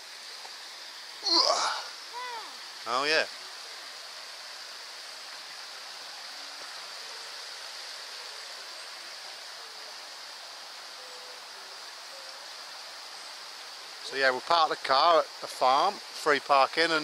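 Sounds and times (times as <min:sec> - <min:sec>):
stream babbling over stones: 0:00.0 - 0:17.0.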